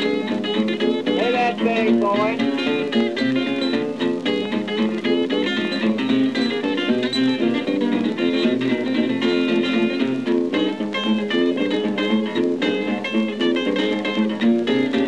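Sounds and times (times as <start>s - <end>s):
guitar picking a quick run: 0.0s - 15.0s.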